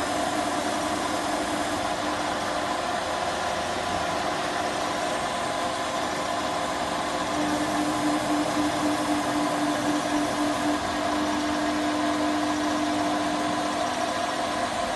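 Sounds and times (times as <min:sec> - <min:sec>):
router machine humming: 0:00.0 - 0:14.9.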